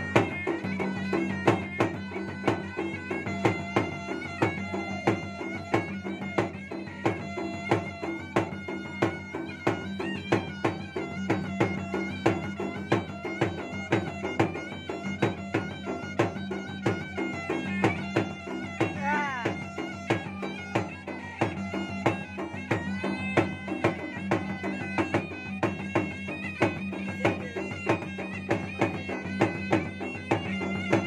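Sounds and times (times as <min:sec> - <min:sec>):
reedy wind pipe melody: 0:00.0 - 0:31.0.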